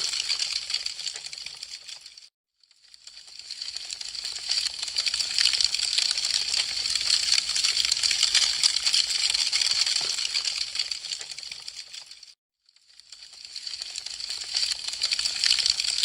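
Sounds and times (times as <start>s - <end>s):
wood fire crackling: 0.0s - 2.3s, 2.9s - 12.3s, 13.0s - 16.0s.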